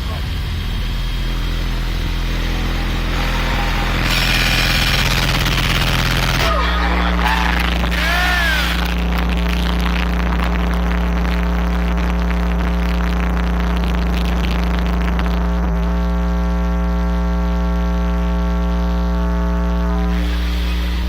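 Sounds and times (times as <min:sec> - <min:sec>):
subwoofer bass tone: 0:00.0 - 0:21.0.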